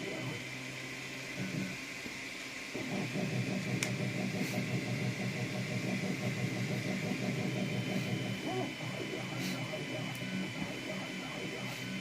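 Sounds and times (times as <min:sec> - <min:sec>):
fans humming: 0:00.0 - 0:12.0.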